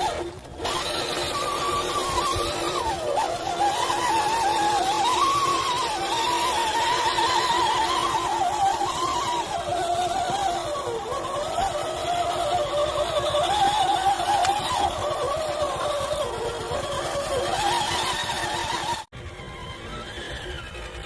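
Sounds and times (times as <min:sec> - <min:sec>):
toy car drivetrain whining: 0:00.0 - 0:21.0.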